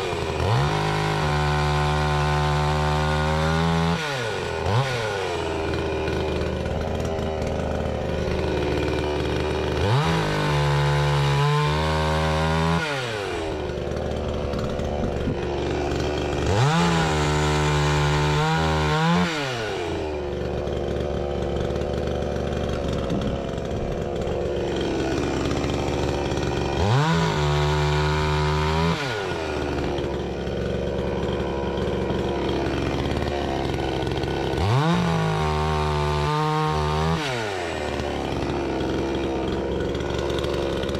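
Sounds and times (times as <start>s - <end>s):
chain cutting logs: 0.0s - 40.9s
chainsaw idling and revving: 0.0s - 40.9s.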